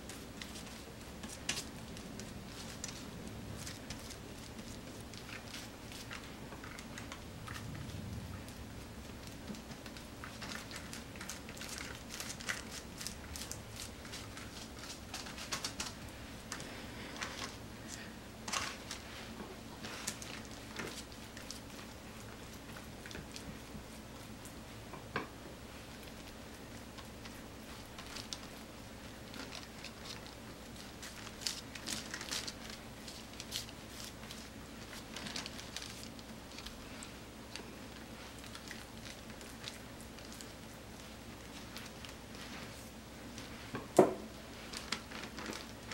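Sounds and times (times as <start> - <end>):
paper crinkling: 0.0 - 24.6, 25.8 - 45.9.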